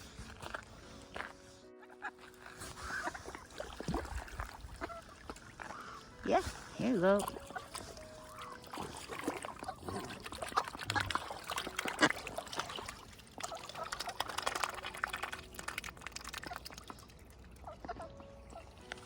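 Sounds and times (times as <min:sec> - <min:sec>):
swan bill dabbling and clicking: 0:02.0 - 0:19.0
water splashing and dripping: 0:02.2 - 0:19.0.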